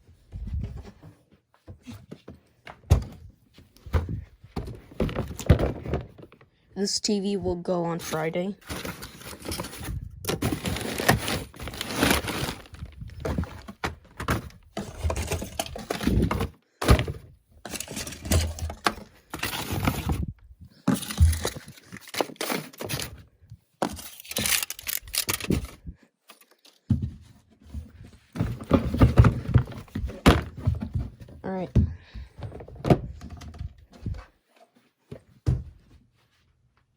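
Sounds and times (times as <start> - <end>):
objects thumping and clattering: 0.1 - 6.5, 7.4 - 23.2, 23.8 - 25.9, 26.8 - 34.3, 35.1 - 36.0.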